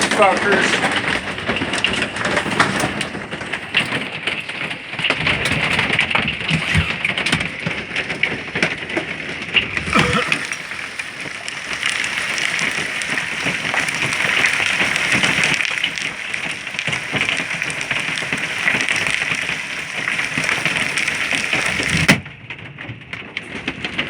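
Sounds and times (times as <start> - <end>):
storm rushing: 0.0 - 22.2
hail clattering: 0.0 - 24.0.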